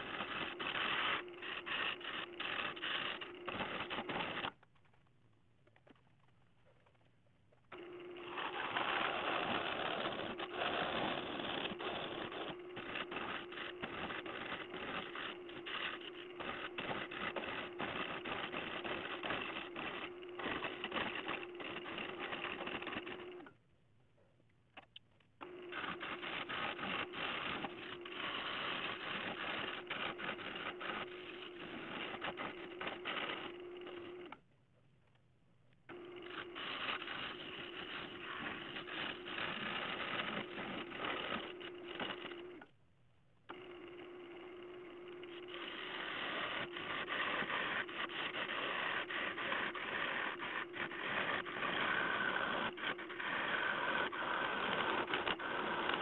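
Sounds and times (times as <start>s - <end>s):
wood lathe humming: 0.0s - 4.5s, 7.7s - 23.5s, 25.4s - 34.4s, 35.9s - 42.6s, 43.5s - 56.0s
turning tool scraping wood: 0.0s - 5.0s, 7.7s - 23.6s, 25.4s - 34.4s, 35.9s - 42.7s, 43.5s - 56.0s.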